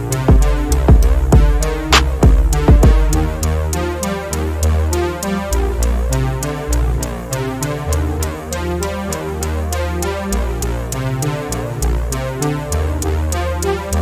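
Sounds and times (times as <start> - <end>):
deep bass line: 0.0 - 14.0
electronic music with steady beat: 0.0 - 14.0
synthesizer chords: 0.0 - 14.0.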